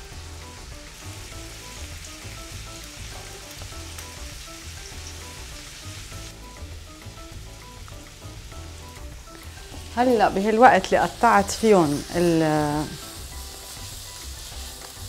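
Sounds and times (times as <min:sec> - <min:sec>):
background music with bass line: 0:00.0 - 0:15.0
vegetables sizzling in a pan: 0:00.0 - 0:15.0.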